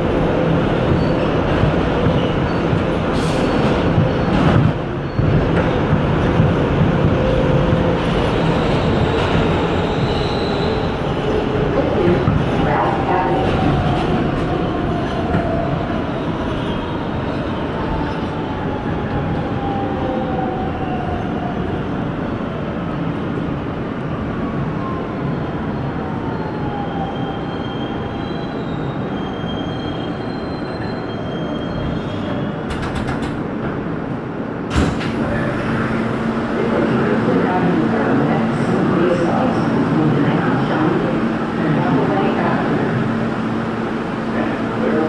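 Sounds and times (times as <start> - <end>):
subway train running on rails: 0.0 - 45.0.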